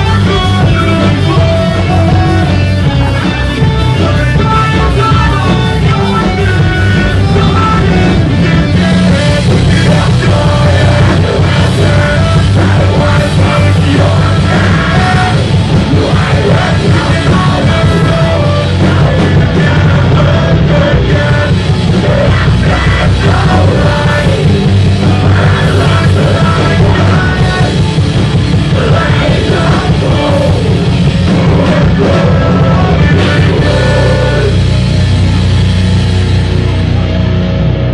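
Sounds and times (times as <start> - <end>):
person singing into a microphone: 0.0 - 34.9
live rock band playing: 0.0 - 37.9.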